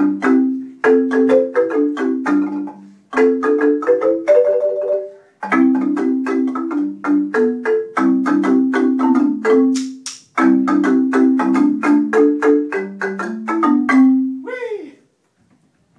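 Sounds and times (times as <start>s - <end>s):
marimba played with mallets: 0.0s - 14.5s.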